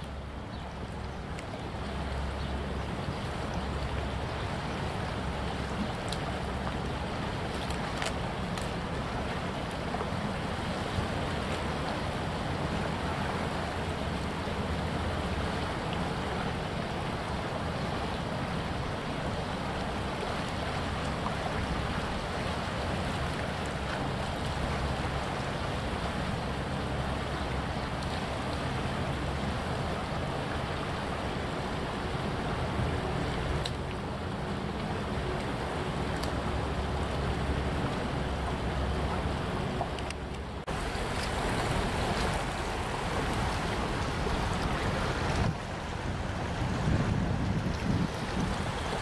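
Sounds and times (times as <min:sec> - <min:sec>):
fast-flowing river water: 0:00.0 - 0:49.0
wind: 0:00.0 - 0:49.0.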